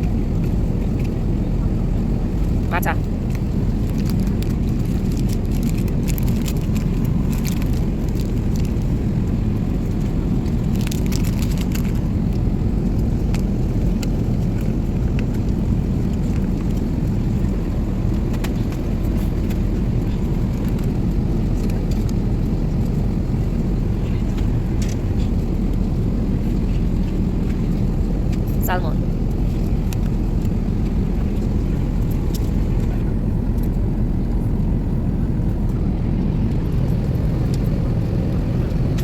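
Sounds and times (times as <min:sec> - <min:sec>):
airplane cabin rumble: 0:00.0 - 0:39.0.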